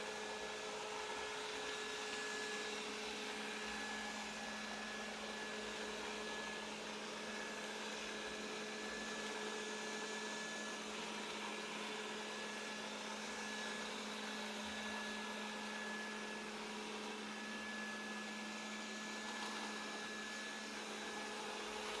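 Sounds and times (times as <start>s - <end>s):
robot vacuum running: 0.2s - 22.0s.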